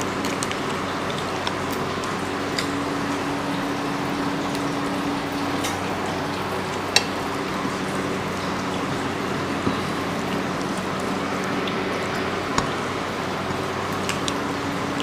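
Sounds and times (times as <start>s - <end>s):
food mixed and chewed: 0.0s - 15.0s
low hum: 0.0s - 15.0s.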